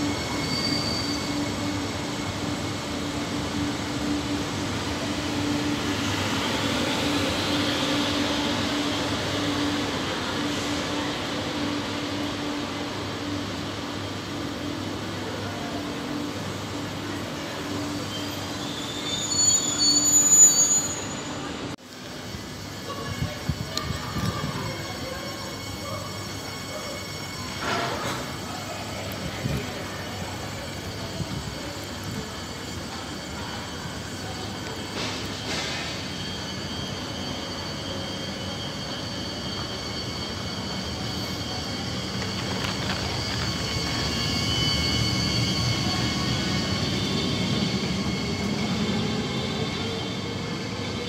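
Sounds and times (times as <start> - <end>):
train rolling past: 0.0 - 51.0
wheels squealing on rails: 0.0 - 51.0.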